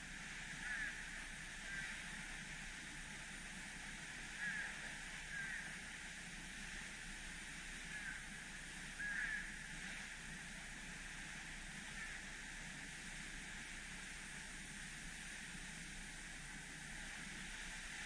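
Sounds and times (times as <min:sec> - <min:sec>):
flowing water rushing: 0:00.0 - 0:18.0.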